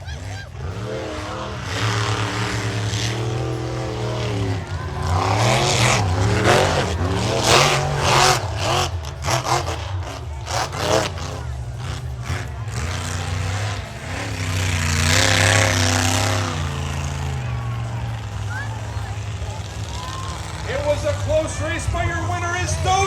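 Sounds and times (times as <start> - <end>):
monster truck engines revving: 0.0 - 23.0.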